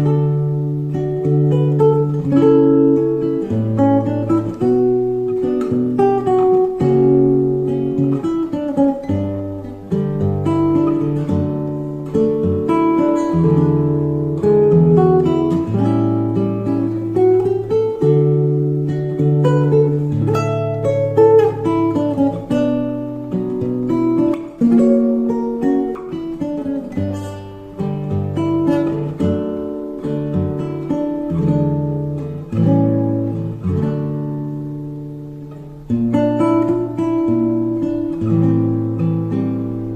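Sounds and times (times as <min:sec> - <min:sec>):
acoustic guitar music: 0:00.0 - 0:39.9.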